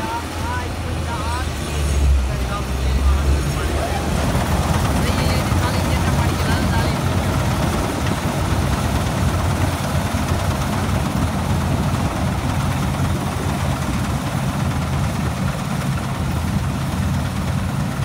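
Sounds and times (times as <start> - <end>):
combine harvester engine drone: 0.0 - 18.0
harvester working noise: 0.0 - 18.0.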